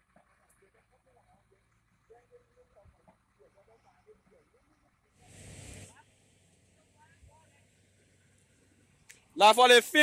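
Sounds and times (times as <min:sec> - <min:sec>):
faint outdoor ambience: 0:00.0 - 0:10.0.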